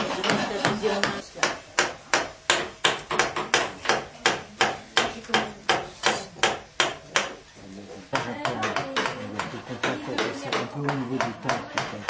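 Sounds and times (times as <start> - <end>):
mallet striking gouge into wood: 1.4 - 7.4, 8.2 - 12.0.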